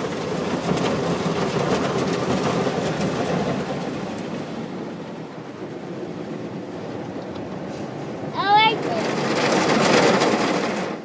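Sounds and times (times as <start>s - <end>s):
car wash water and machinery: 0.0s - 11.0s.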